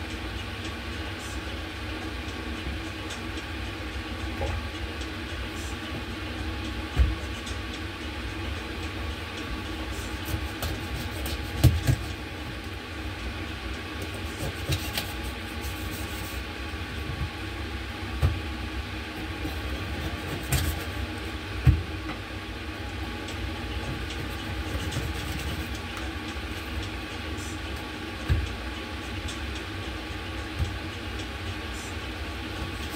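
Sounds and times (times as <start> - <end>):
low kitchen hum: 0.0 - 32.9.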